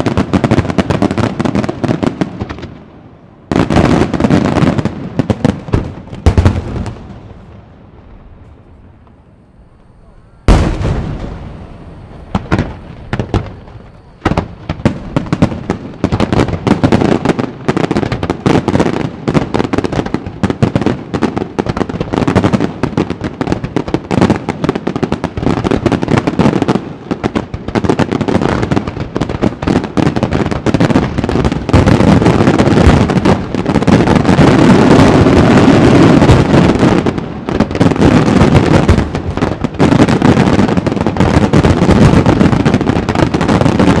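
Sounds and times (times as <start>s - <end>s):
fireworks bursting: 0.0s - 44.0s.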